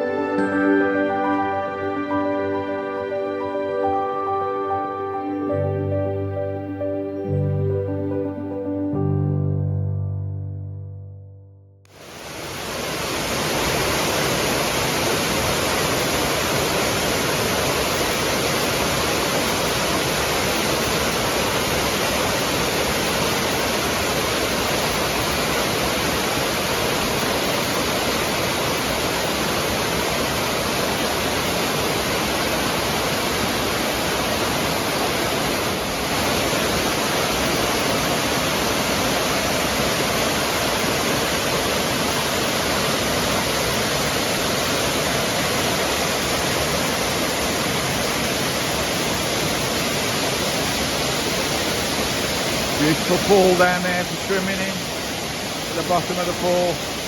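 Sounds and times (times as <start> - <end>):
waterfall rushing: 0.0 - 9.1, 11.9 - 57.0.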